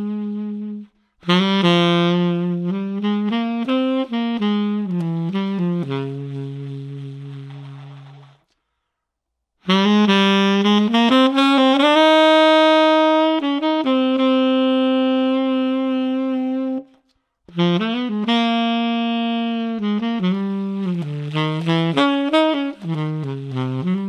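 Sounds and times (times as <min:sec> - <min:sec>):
tenor saxophone jazz phrase: 0:00.0 - 0:08.4, 0:09.7 - 0:24.0.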